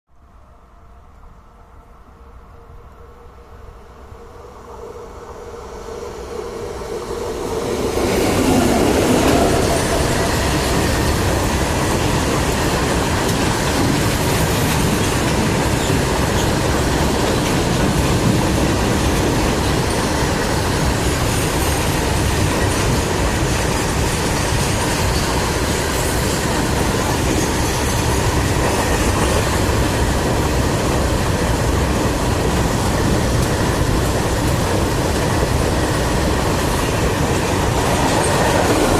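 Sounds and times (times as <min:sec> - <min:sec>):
freight train passing: 0:00.2 - 0:38.9.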